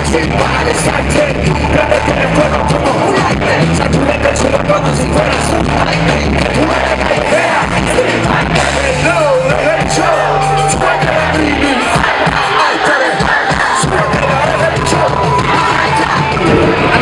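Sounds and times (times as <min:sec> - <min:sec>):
heavy bass line: 0:00.0 - 0:17.0
man rapping and singing: 0:00.0 - 0:17.0.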